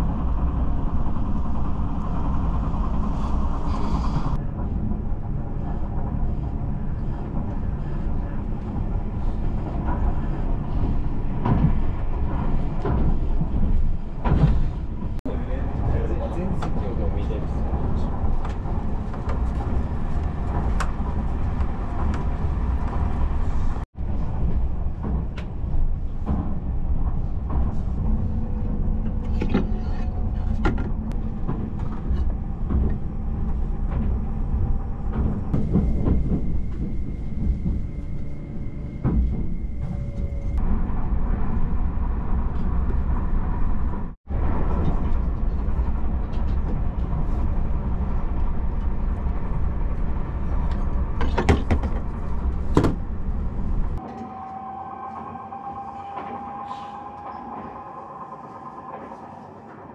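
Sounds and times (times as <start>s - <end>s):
train running low rumble: 0.0s - 59.9s.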